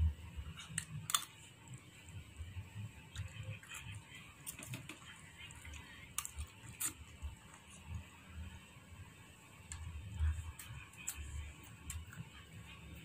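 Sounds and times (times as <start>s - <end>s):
soft eating sounds: 0.0s - 13.0s.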